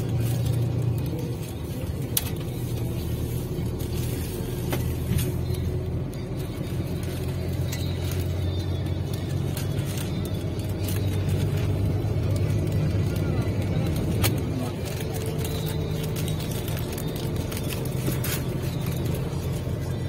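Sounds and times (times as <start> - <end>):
bus drone from inside: 0.0 - 20.0.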